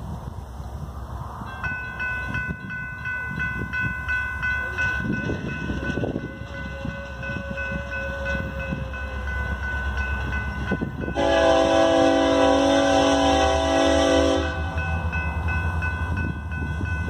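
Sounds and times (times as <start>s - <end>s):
crossing warning bell ringing: 1.3s - 17.0s.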